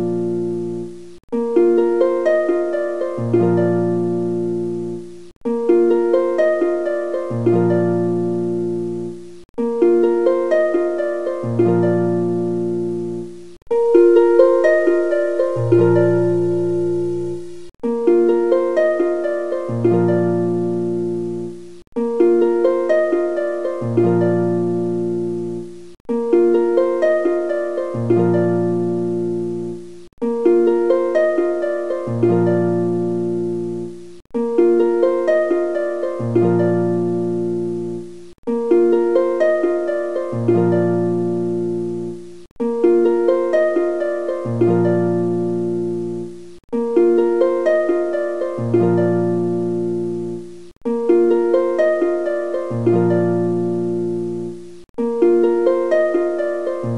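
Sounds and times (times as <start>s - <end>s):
plucked melody music: 0.0s - 56.9s.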